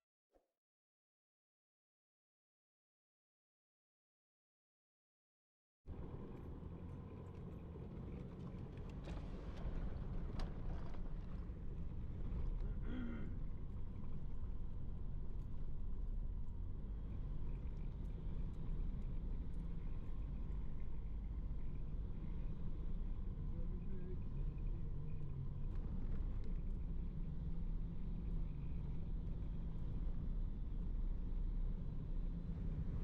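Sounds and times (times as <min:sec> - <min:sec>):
vehicle engine and road rumble: 0:05.9 - 0:33.0.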